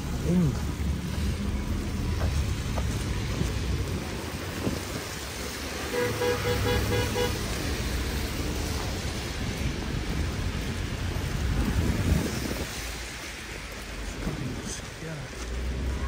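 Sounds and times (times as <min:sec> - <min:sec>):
traffic on wet road: 0:00.0 - 0:16.0.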